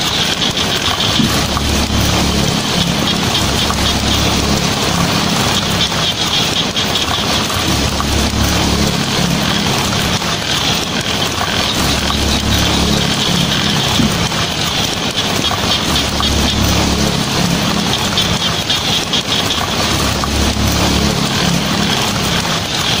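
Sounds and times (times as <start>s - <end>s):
heavy rain on a tin roof: 0.0s - 23.0s
low rumble: 0.0s - 23.0s.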